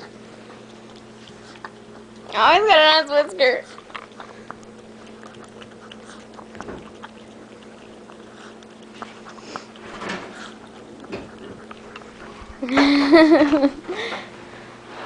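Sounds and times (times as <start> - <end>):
dog licking wet clicks: 0.0 - 13.8.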